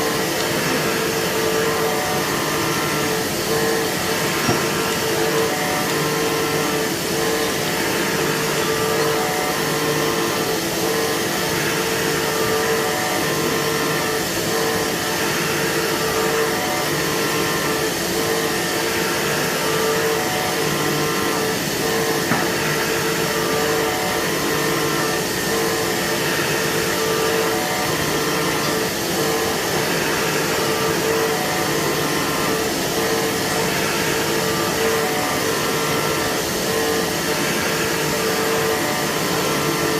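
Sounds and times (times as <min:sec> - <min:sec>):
cnc machine hiss and whine: 0:00.0 - 0:39.9.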